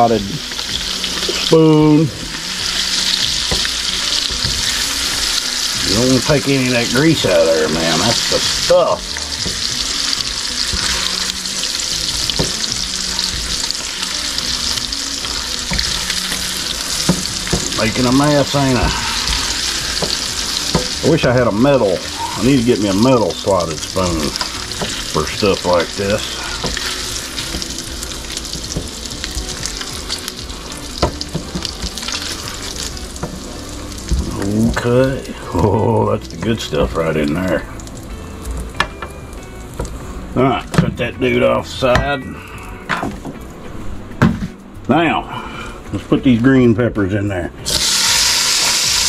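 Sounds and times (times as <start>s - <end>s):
meat sizzling in grease: 0.0s - 42.8s, 47.7s - 49.0s.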